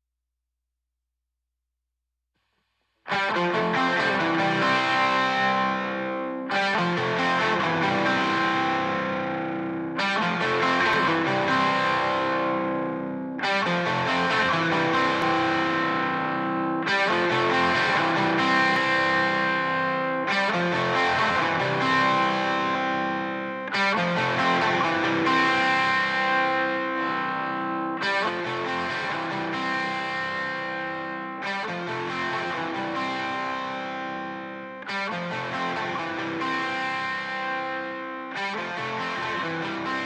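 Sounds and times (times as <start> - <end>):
distorted electric guitar chords: 3.1 - 40.0.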